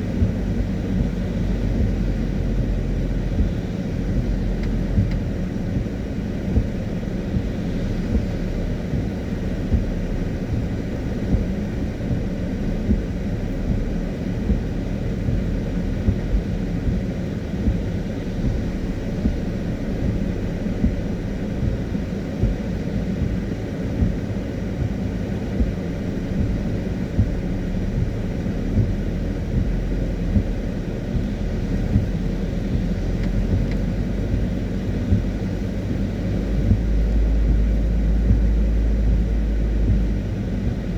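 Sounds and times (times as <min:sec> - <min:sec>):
car driving on wet road: 0:00.0 - 0:40.9.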